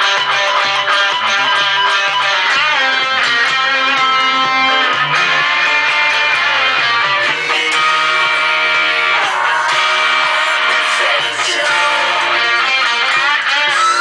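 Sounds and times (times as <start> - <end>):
electric guitar strumming: 0.0 - 14.0
loud rock music: 0.0 - 14.0.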